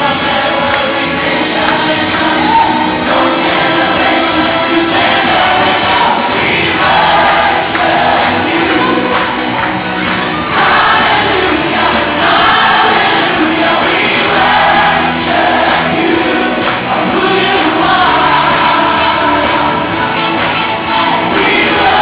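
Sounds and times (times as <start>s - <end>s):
choir singing held phrases: 0.0s - 22.0s.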